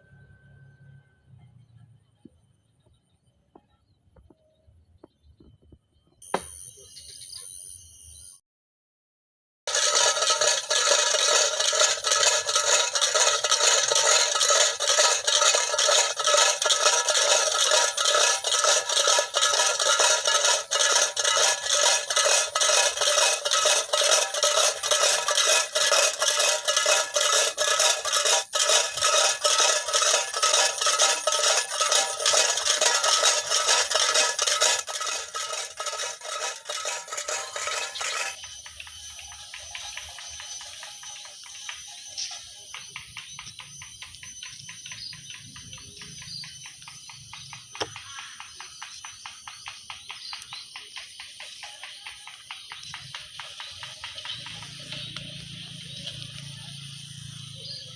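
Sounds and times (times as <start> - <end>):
tin cans rattling with pebbles: 9.7 - 57.8.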